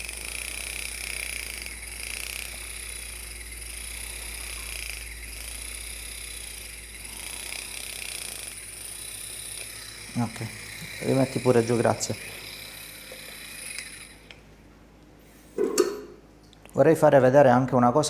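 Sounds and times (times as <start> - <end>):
vibration device humming and buzzing: 0.0 - 16.7.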